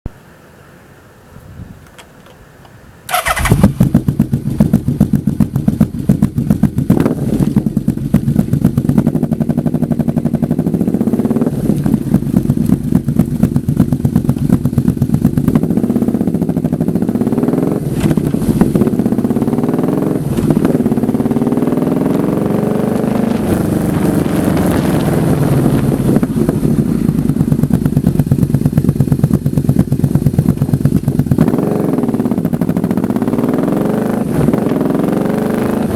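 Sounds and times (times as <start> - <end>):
motorcycle engine revving: 3.1 - 35.9.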